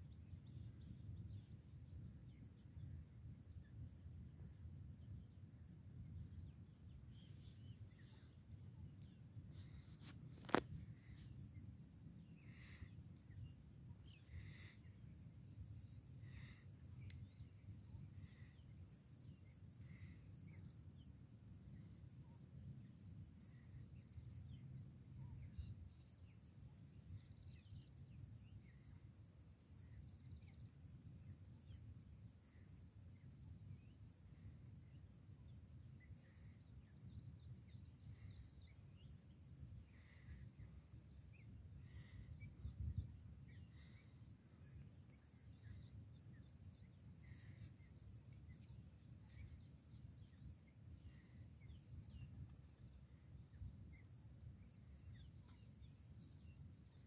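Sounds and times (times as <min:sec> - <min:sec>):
insects chirring: 0:00.0 - 0:57.0
soft chirps: 0:00.0 - 0:57.0.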